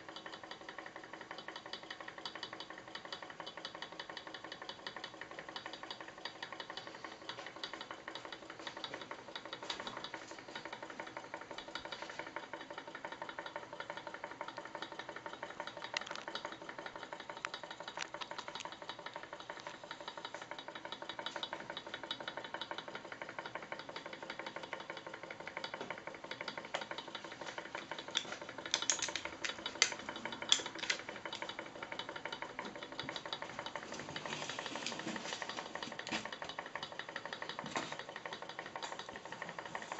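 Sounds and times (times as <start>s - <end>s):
model engine ticking and knocking: 0.0s - 39.9s.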